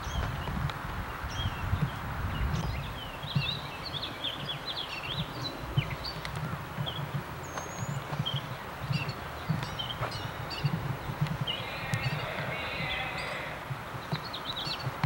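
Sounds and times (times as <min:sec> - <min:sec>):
birds chirping: 0:00.0 - 0:15.0
light rail train rumbling: 0:00.0 - 0:15.0.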